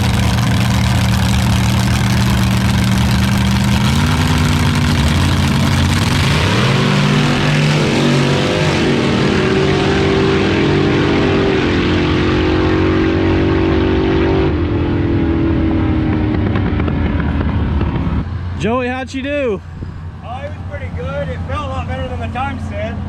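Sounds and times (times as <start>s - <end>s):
dragster engine accelerating: 0.0s - 18.6s.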